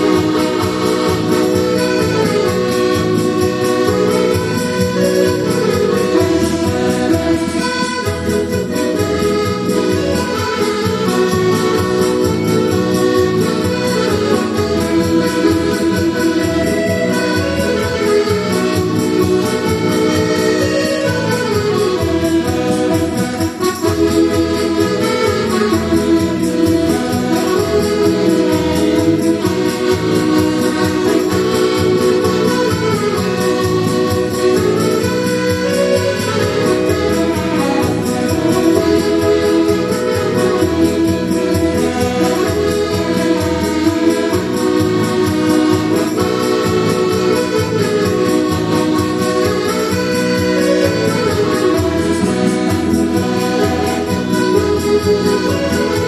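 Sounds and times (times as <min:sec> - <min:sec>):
button accordion march: 0:00.0 - 0:56.0.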